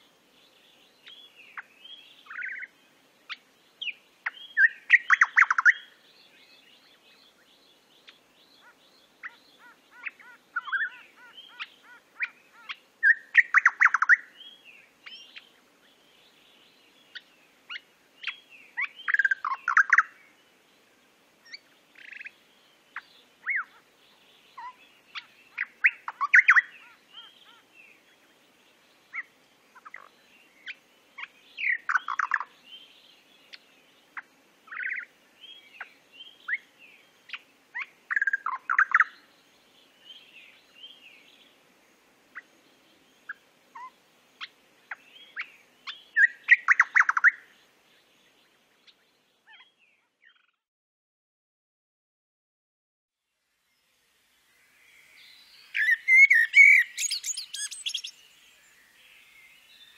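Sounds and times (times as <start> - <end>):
songbird chirping and warbling: 0.0 - 50.6, 53.5 - 59.9.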